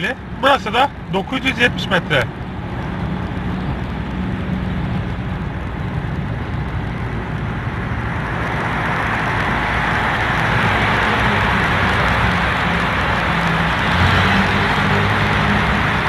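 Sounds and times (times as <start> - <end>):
car engine hum: 0.0 - 16.0.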